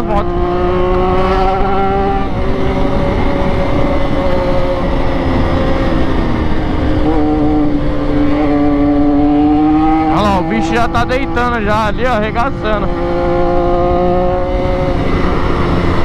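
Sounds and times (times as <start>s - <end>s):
motorcycle engine cruising: 0.0s - 16.0s
wind noise: 0.0s - 16.0s.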